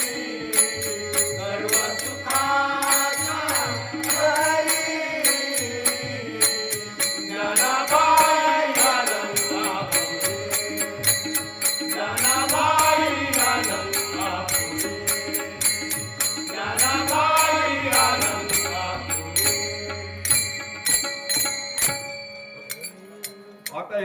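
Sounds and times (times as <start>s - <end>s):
person singing devotional song: 0.0s - 22.0s
small hand cymbals: 0.0s - 23.9s.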